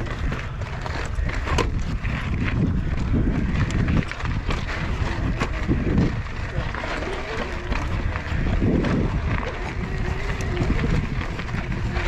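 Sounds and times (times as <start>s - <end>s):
bike rattling: 0.0s - 12.0s
bike tyres crunching on trail: 0.0s - 12.0s
wind on microphone: 0.0s - 12.0s.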